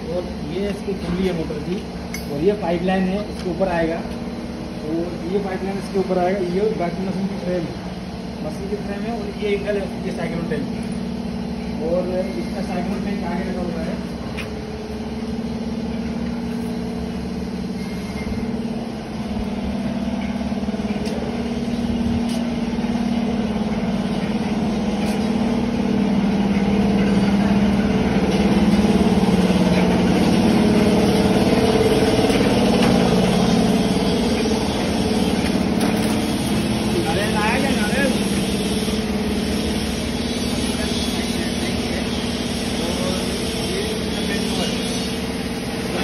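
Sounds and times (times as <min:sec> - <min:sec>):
machinery hum: 0:00.0 - 0:46.0.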